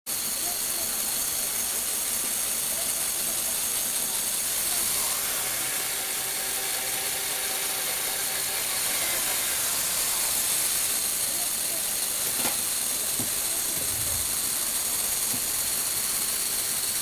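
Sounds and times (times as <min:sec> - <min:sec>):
faint motor tone: 0:00.1 - 0:17.0
motor driving plastic gears: 0:00.1 - 0:17.0.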